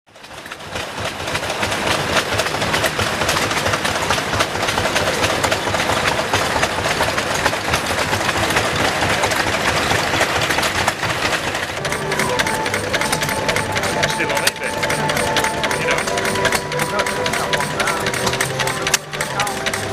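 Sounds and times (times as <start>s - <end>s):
many engines clattering: 0.1s - 19.9s.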